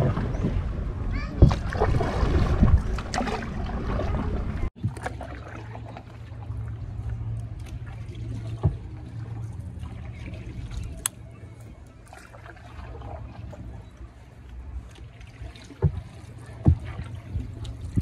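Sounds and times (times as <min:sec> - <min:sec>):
water lapping against boat hull: 0:00.0 - 0:18.0.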